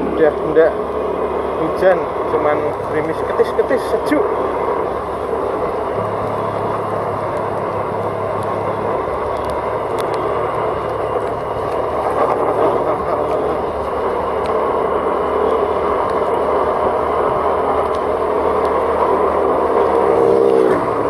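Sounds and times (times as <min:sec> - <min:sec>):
car engine: 0:00.0 - 0:21.0
wind noise: 0:00.0 - 0:21.0.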